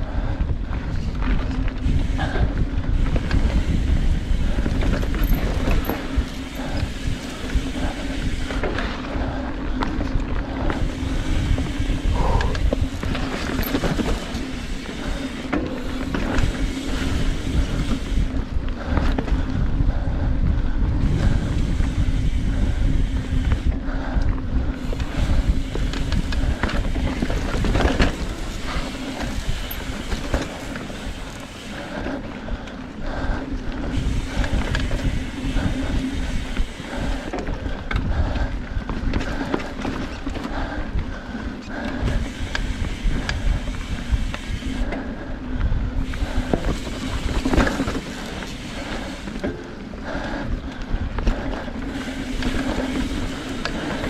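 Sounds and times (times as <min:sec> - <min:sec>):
bike rattling and knocking: 0:00.0 - 0:54.0
bike tyres rolling over dirt: 0:00.0 - 0:54.0
wind buffeting microphone: 0:00.0 - 0:54.0.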